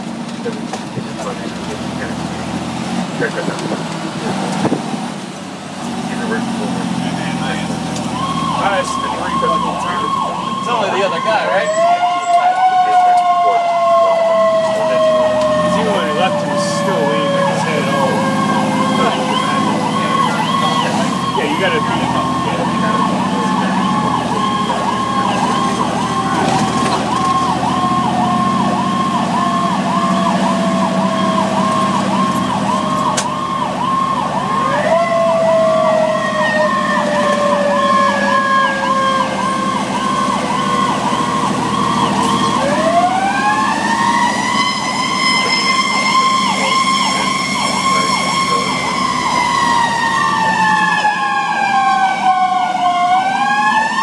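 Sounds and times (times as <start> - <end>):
electronic siren yelping: 7.0 - 54.0.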